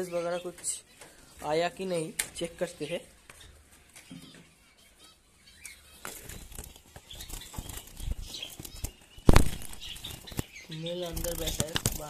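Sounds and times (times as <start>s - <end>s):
birds fluttering: 0.0s - 12.0s.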